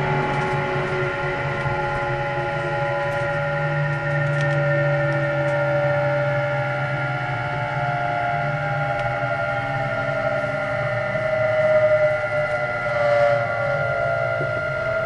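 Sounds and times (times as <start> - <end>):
electric train motor whine: 0.0 - 15.0
train rumble: 0.0 - 15.0.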